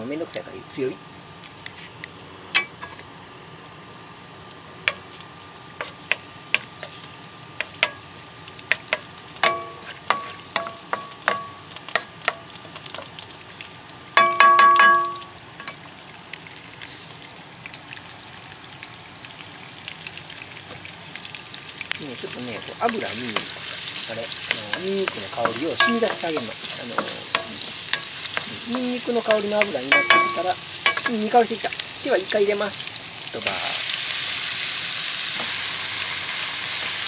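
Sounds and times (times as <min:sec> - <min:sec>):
garlic sizzling in oil: 0:00.2 - 0:37.0.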